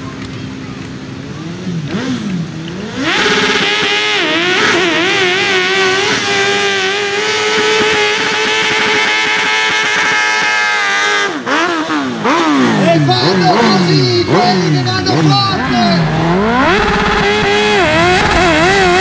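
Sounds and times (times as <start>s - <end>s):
motorcycle engine screaming: 1.2s - 19.0s.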